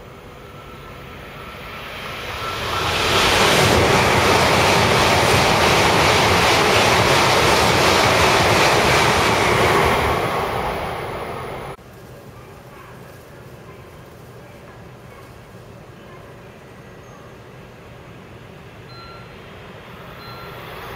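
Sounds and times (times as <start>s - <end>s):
high-speed train passing: 0.0s - 11.8s, 15.7s - 20.9s.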